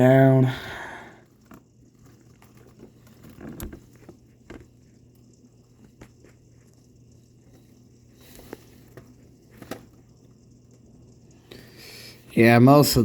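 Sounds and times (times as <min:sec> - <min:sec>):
low steady hum: 0:00.0 - 0:13.0
raindrops pattering: 0:00.0 - 0:13.0.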